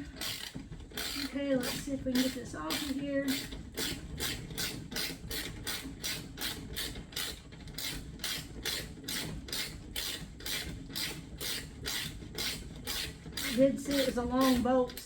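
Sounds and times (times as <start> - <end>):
ratchet wrench clicking: 0.0 - 14.6.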